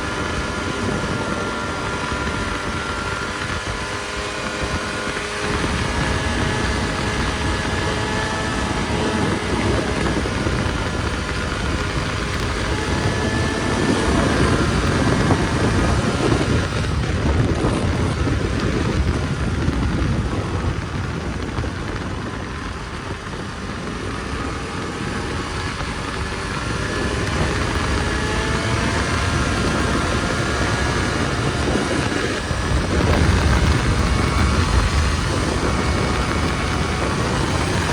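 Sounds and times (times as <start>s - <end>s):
snowmobile engine running: 0.0s - 37.9s.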